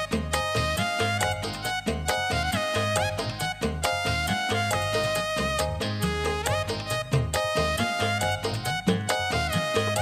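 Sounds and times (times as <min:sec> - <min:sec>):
melody with sliding notes: 0:00.0 - 0:10.0
steady beat and bass: 0:00.0 - 0:10.0.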